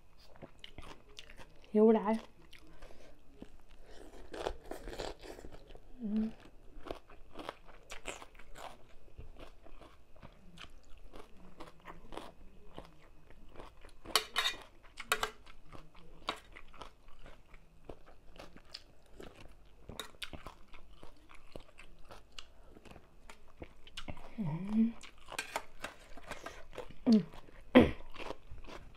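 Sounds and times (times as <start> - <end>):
chewing and crunching food: 0.0 - 28.9.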